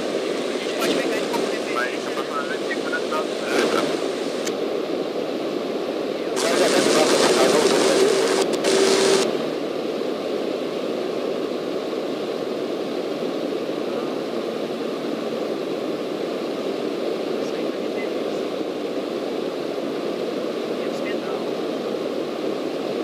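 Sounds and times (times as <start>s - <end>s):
aircraft engine drone in cabin: 0.0s - 23.0s.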